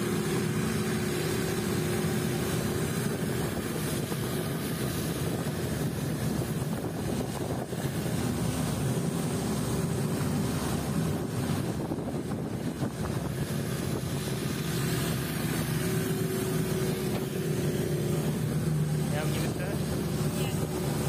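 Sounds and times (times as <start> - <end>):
boat engine running steadily: 0.0 - 21.0
water rushing: 0.0 - 21.0
wind: 0.0 - 21.0.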